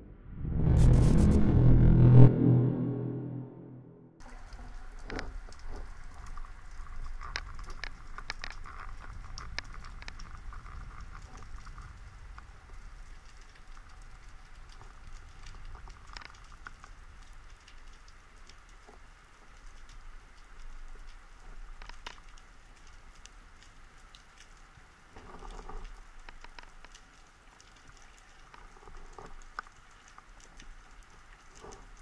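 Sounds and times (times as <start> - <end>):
underwater clicks and crackles: 4.2 - 32.0.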